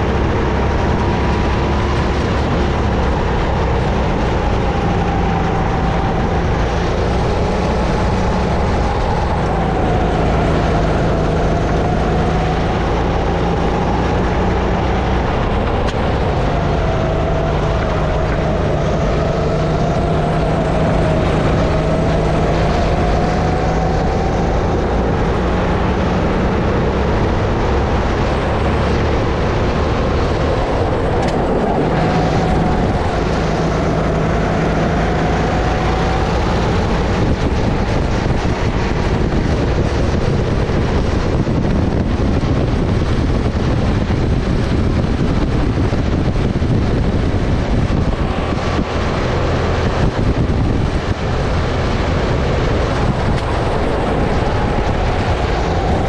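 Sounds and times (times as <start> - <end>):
kart engine revving: 0.0 - 56.0
wind rush: 0.0 - 56.0.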